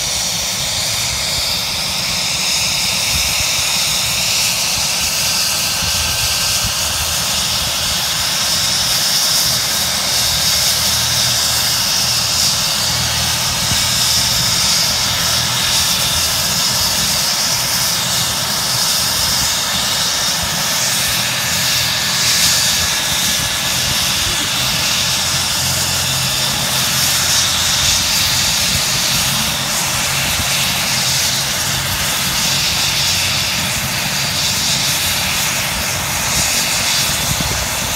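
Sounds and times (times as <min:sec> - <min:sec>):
helicopter rotor turning: 0:00.0 - 0:37.9
turbine engine high whine: 0:00.0 - 0:37.9.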